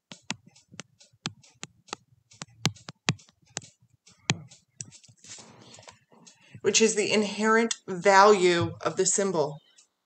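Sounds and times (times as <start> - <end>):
stylus clicking on tablet: 0.0 - 10.0.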